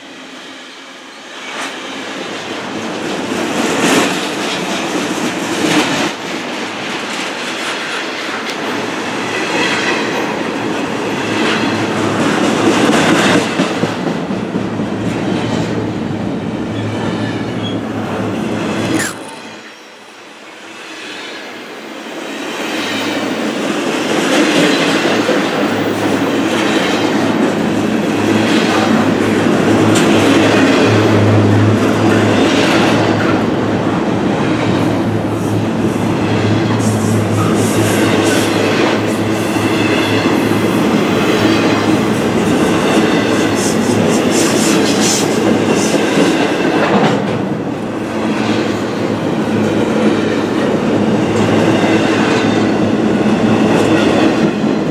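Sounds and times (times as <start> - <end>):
steel wheels on rail: 0.0 - 54.9.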